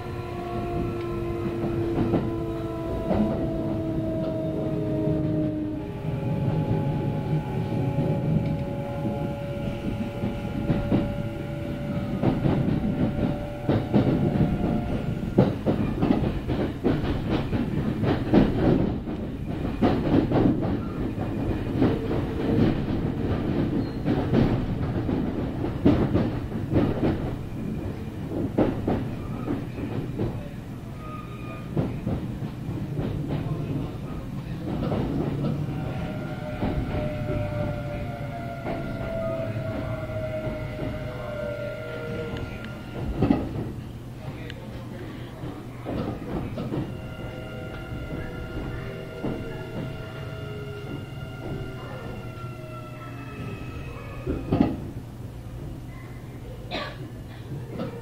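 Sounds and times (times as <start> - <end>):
train wheels clacking over joints: 0.0 - 55.9
train rumble: 0.0 - 58.0.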